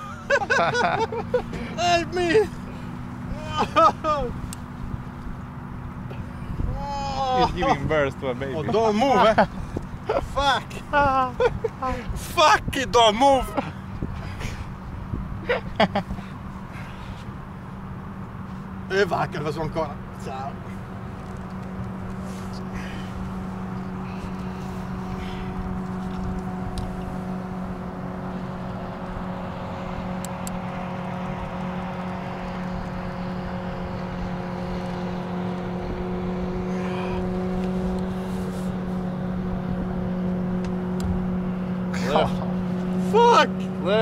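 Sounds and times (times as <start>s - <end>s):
boat motor running: 0.0s - 44.0s.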